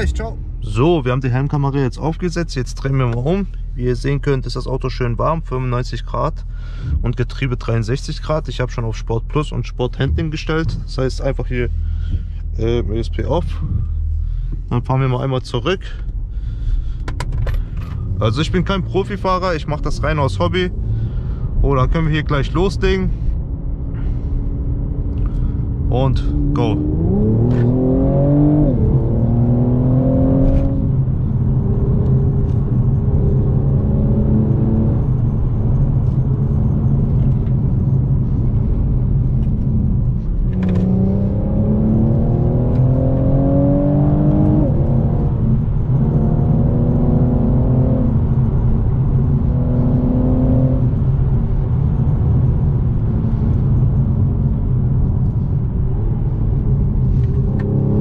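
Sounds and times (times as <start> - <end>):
car engine accelerating: 0.0 - 58.0
road rumble: 0.0 - 58.0.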